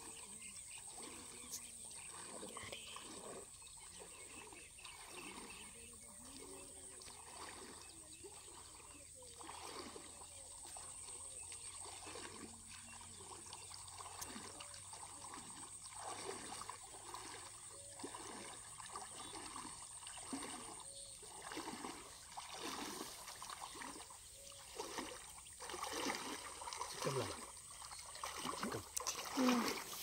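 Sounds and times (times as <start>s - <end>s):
shallow water sloshing: 0.0s - 30.0s.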